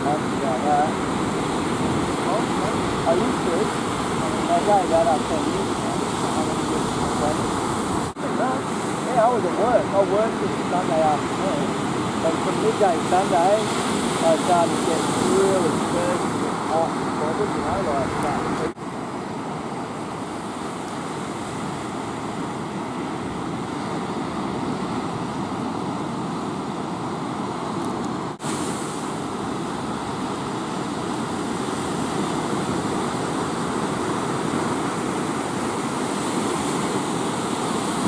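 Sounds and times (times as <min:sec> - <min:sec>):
ocean waves breaking: 0:00.0 - 0:38.0.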